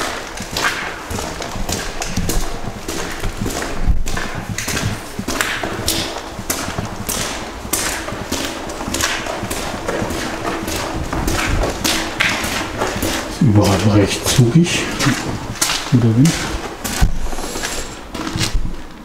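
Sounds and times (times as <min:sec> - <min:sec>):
footsteps on gritty floor: 0:00.0 - 0:19.0.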